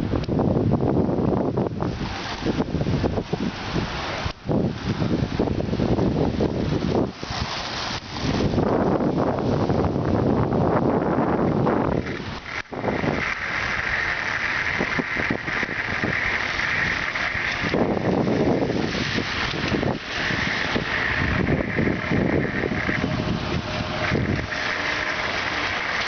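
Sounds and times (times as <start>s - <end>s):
wind buffeting microphone: 0.0s - 26.0s
tyres hissing on wet pavement: 1.2s - 26.0s
traffic passing: 1.6s - 26.0s.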